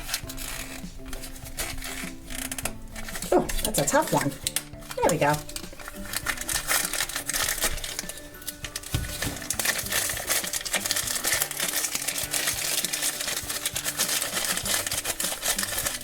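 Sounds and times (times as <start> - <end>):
light background music: 0.0 - 16.0
plastic packaging rustling: 0.0 - 16.0.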